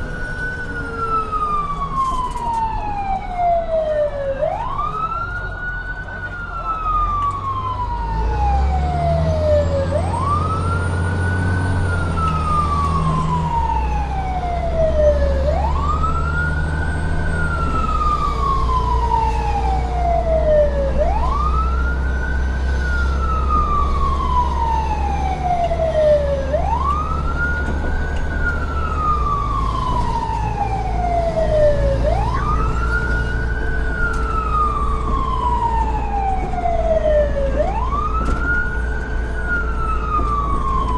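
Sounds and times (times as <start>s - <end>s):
siren wailing: 0.0s - 40.9s.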